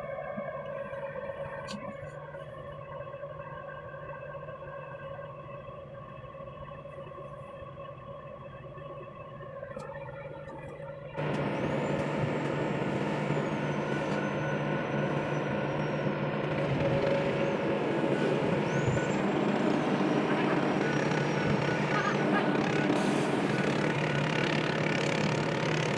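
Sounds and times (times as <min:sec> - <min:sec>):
faint high whine: 0:00.0 - 0:25.6
diesel engine running: 0:00.0 - 0:25.9.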